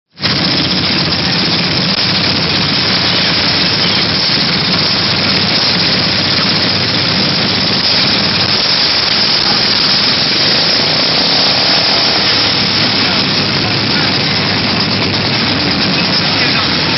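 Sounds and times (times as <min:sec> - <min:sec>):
small engine running: 0:00.2 - 0:16.9
loud even hiss: 0:02.0 - 0:16.9.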